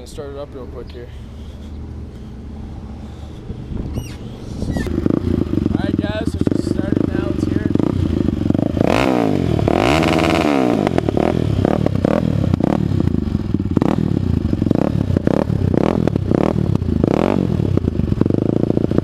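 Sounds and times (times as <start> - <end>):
quad engine revving: 1.1 - 19.0.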